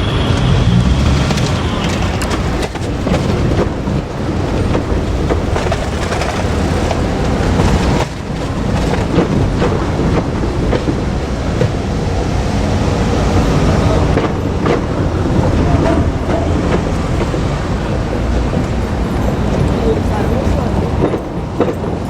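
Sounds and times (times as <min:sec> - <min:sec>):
diesel railcar passing: 0:00.0 - 0:22.0
wheels clacking over rail joints: 0:00.0 - 0:22.0.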